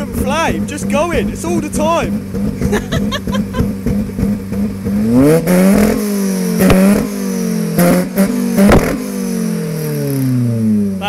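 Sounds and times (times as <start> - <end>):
car engine revs falling: 0.0 - 11.0
sharp exhaust backfire bangs: 0.0 - 11.0.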